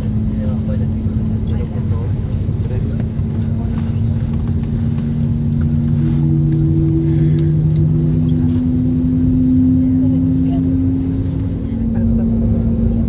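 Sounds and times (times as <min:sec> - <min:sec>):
jet engines hum inside cabin: 0:00.0 - 0:13.0.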